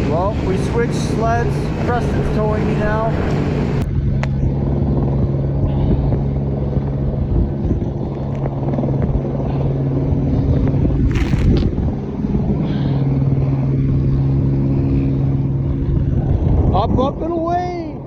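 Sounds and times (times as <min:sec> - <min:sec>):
snowmobile engine droning: 0:00.0 - 0:16.4.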